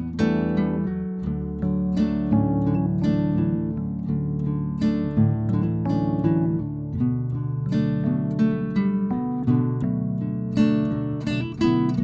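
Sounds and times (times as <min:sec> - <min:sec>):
acoustic guitar plucked and strummed: 0:00.0 - 0:12.0.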